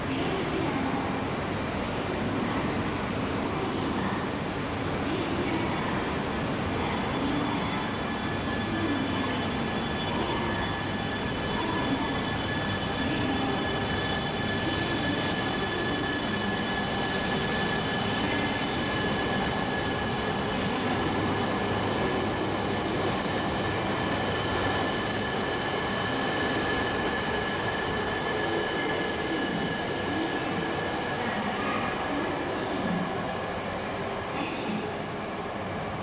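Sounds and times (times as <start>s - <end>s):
train rolling past with whine: 3.5s - 34.3s.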